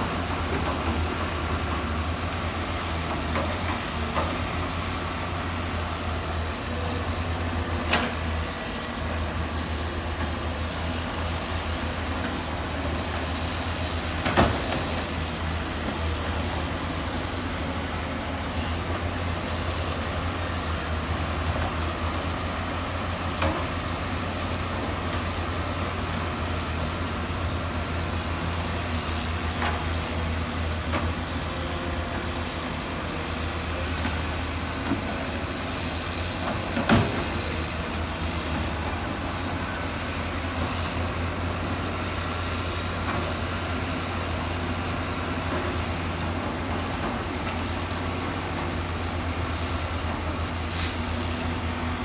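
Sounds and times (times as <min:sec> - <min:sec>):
diesel machinery rumbling: 0:00.0 - 0:52.0.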